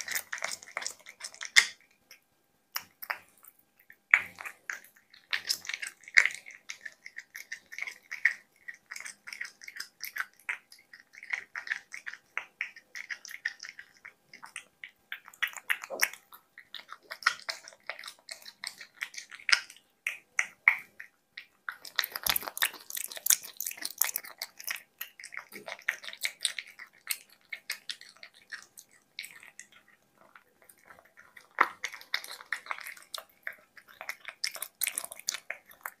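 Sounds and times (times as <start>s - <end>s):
cat licking and chewing: 0.0s - 36.0s.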